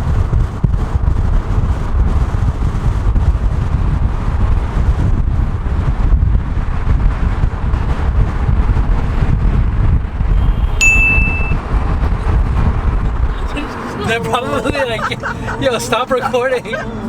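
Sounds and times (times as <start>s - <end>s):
moving car rumble: 0.0s - 17.0s
road traffic: 0.0s - 17.0s
wind buffeting microphone: 0.0s - 17.0s.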